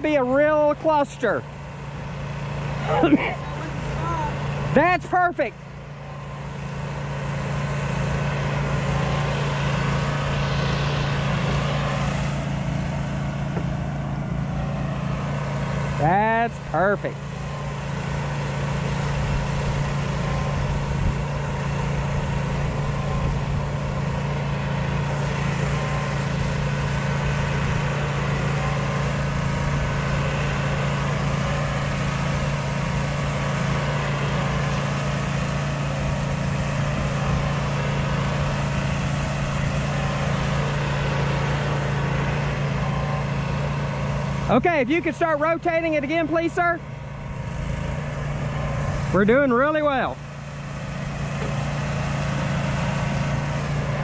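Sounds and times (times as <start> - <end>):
engine hum: 0.0 - 54.0.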